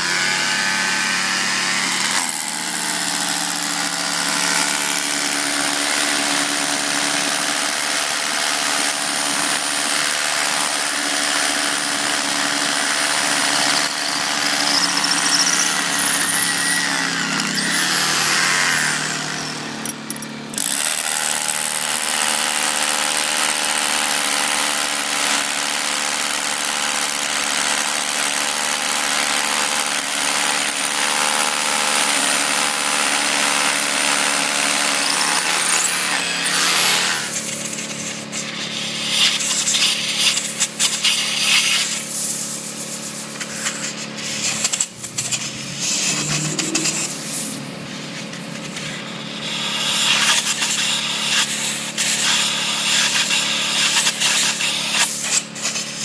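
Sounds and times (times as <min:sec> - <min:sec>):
drill boring into concrete: 0:00.0 - 0:56.0.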